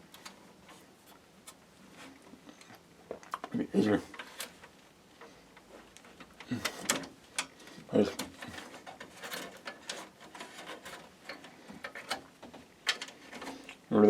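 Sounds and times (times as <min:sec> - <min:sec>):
clicks and rustles of cables: 0:00.0 - 0:14.0.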